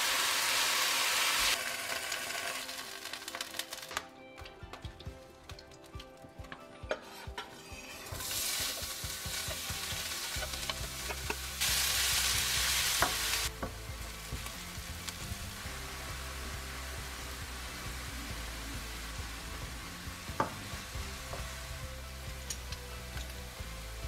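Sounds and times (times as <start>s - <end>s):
onions sizzling in a frying pan: 0.0s - 4.0s, 7.1s - 24.0s.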